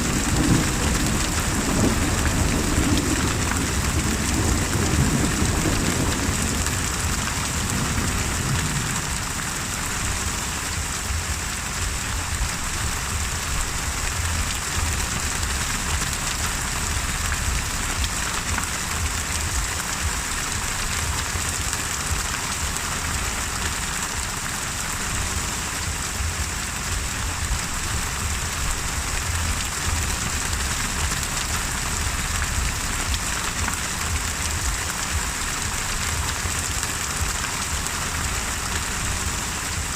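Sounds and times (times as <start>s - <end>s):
thunder rumble: 0.0s - 22.7s, 25.2s - 37.8s
heavy rain: 0.0s - 39.9s.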